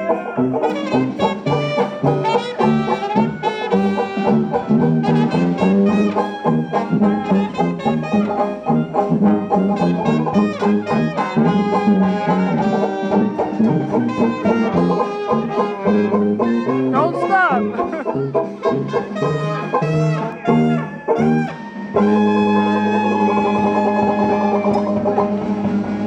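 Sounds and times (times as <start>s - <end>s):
live jazz band with brass: 0.0s - 26.0s.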